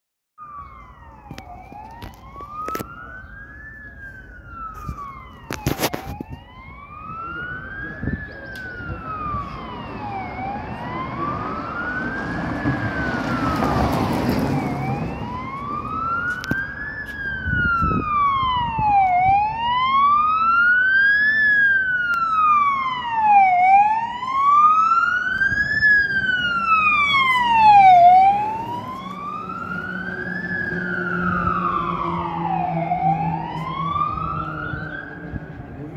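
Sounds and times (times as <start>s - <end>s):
engine and road noise: 0.4s - 35.9s
fire engine wail siren: 0.4s - 35.9s.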